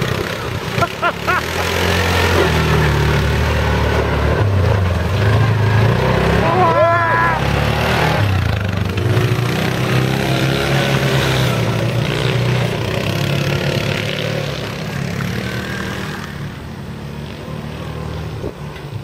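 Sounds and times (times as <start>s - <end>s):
utility vehicle engine driving off: 0.0s - 19.0s.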